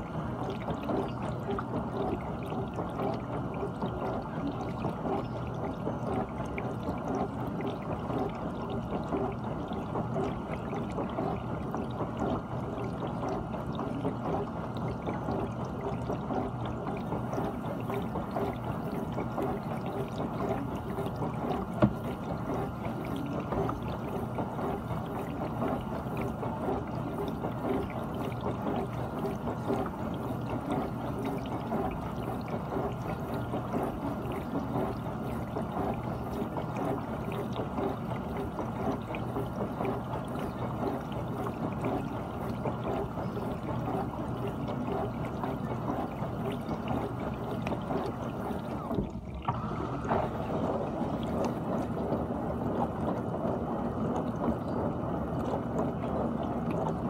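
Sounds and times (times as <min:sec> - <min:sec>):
water splashing inside dishwasher: 0:00.0 - 0:57.0.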